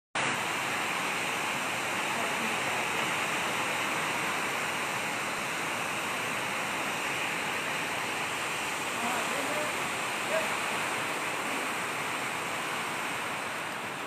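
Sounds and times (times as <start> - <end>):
heavy rain: 0.2 - 14.0.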